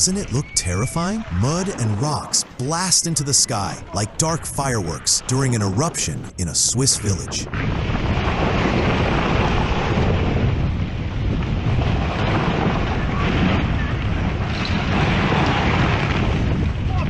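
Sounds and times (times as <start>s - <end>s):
mud and rock eruption roar: 0.0s - 17.0s
wind buffeting microphone: 0.0s - 17.0s.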